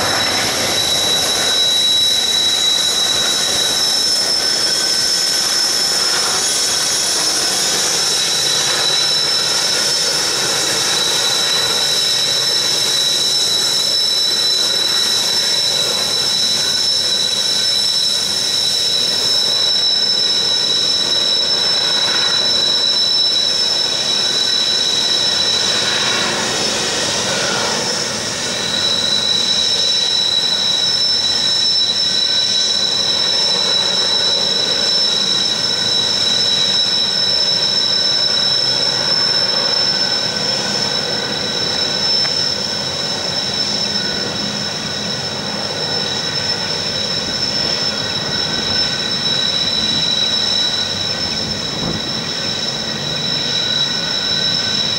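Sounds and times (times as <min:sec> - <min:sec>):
high two-note wheel squeal: 0:00.0 - 0:54.9.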